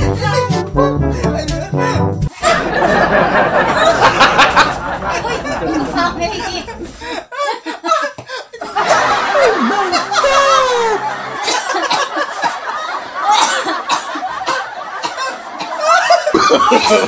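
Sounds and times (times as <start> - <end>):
man and woman laughing: 2.4 - 17.0.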